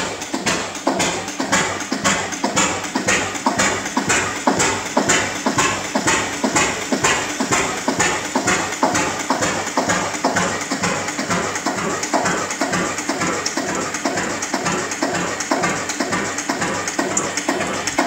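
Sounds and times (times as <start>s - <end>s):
oil engine knocking and clattering: 0.0s - 18.0s.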